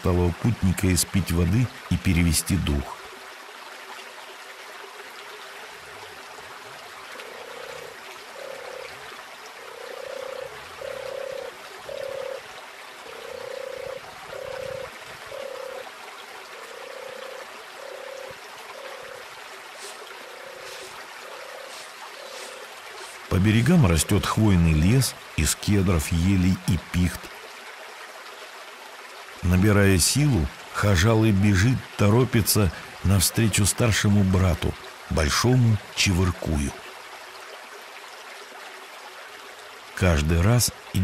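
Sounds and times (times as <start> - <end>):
creek running: 0.0 - 41.0.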